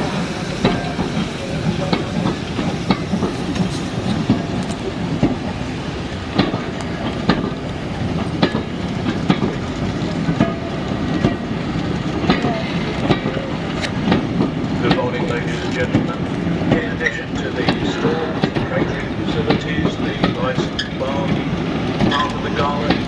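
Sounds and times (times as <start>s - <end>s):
train rumbling on rails: 0.0s - 23.0s
wheels clacking over rail joints: 0.0s - 23.0s.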